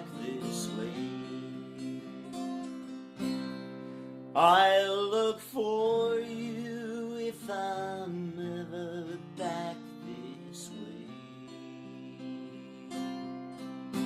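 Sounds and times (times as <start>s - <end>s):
person singing long notes: 0.0s - 2.4s, 4.4s - 13.3s
acoustic guitar: 0.0s - 14.0s.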